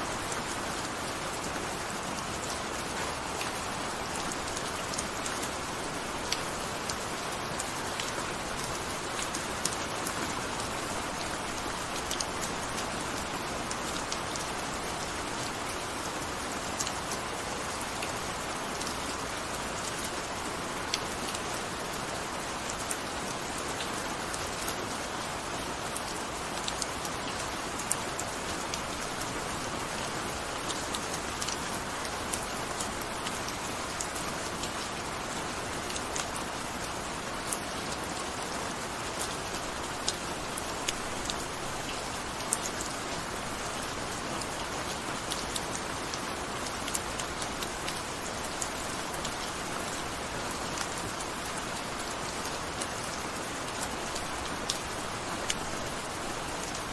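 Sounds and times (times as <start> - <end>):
raindrops ticking on a surface: 0.0 - 56.9
steady rain hiss: 0.0 - 56.9.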